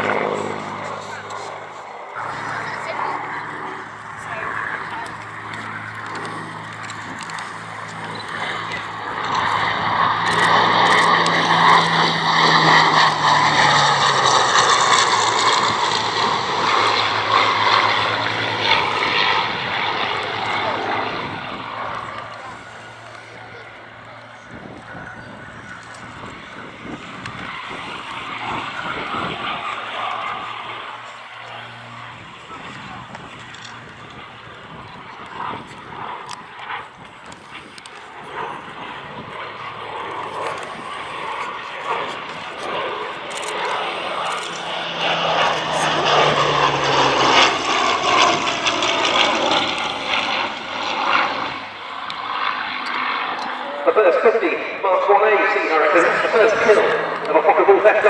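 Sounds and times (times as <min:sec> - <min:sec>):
aircraft rushing noise: 0:00.0 - 0:58.0.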